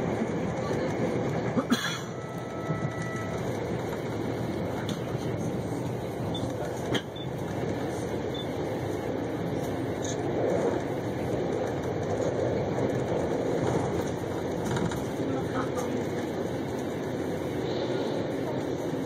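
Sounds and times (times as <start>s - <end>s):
train rolling on track: 0.0s - 19.0s.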